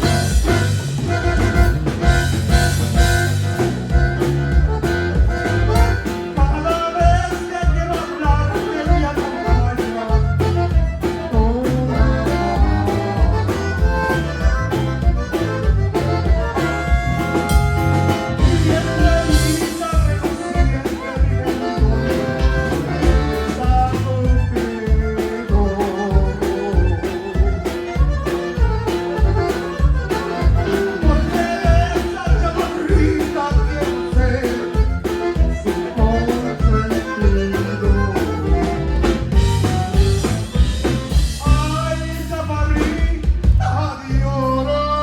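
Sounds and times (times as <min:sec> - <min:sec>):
live band instrumental music: 0:00.0 - 0:45.0.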